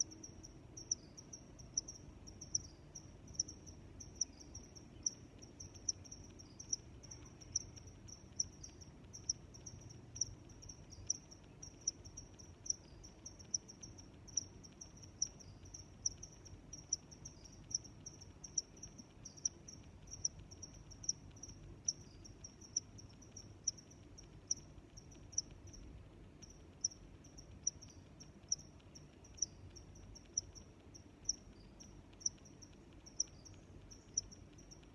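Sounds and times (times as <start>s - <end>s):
crickets chirping: 0.0s - 34.9s
faint fast chirping: 0.0s - 34.9s.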